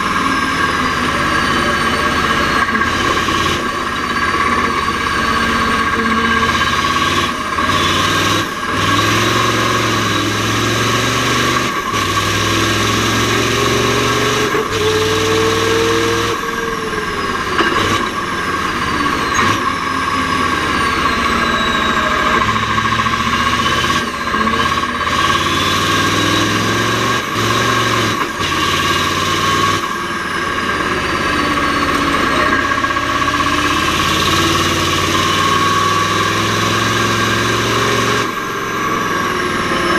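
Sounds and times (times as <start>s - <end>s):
diesel truck engine shifting gears: 0.0s - 39.9s.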